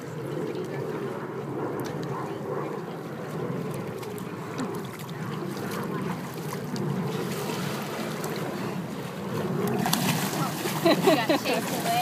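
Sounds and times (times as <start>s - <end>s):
steady low rumble: 0.0s - 12.0s
water splashing and sloshing: 0.0s - 12.0s
water drips and slaps: 1.8s - 12.0s.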